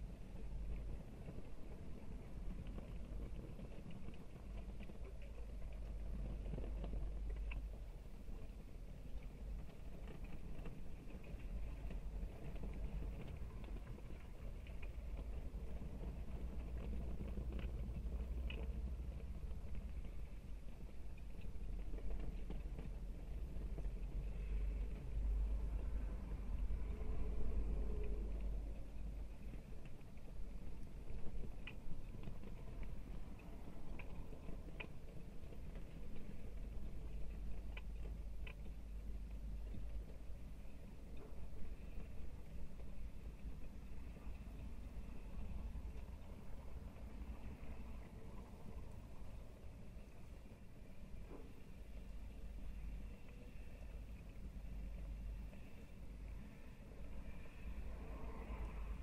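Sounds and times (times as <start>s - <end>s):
faint clicks and clanks: 0.0s - 59.0s.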